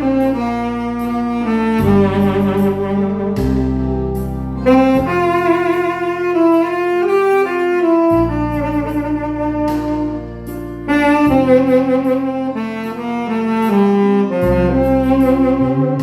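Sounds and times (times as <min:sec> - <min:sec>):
accompaniment with sustained bass: 0:00.0 - 0:16.0
saxophone slow melody: 0:00.0 - 0:16.0.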